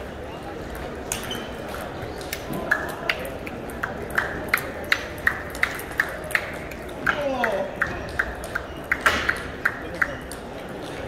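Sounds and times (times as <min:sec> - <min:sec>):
background murmur: 0:00.0 - 0:11.0.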